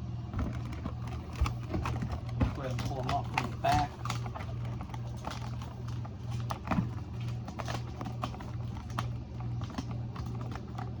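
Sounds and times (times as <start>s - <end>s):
hands handling plastic doll: 0.4s - 11.0s.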